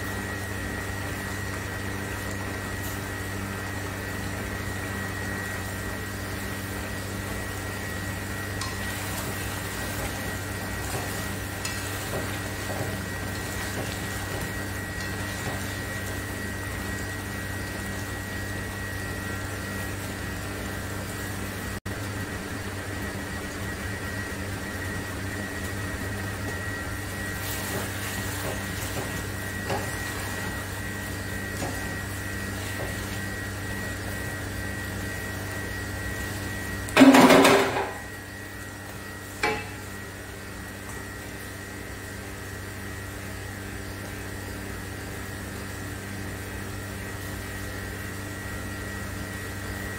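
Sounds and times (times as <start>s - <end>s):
electrical hum with high whine: 0.0s - 49.9s.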